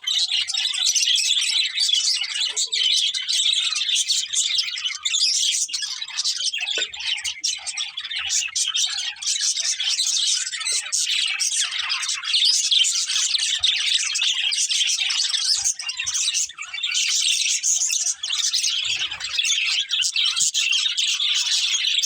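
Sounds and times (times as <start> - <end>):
budgerigars chirping: 0.1 - 22.0.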